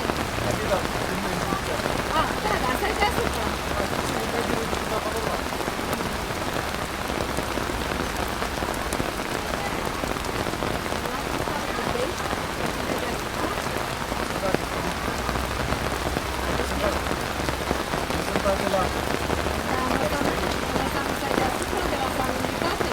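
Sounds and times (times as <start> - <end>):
heavy rain pouring: 0.0 - 22.9
sharp raindrops: 0.0 - 22.9.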